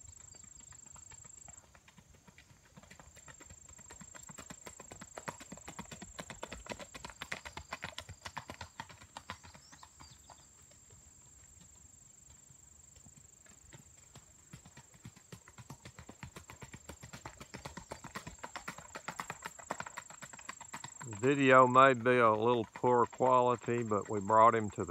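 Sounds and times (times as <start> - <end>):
hoofbeats on gravel: 0.0 - 24.9.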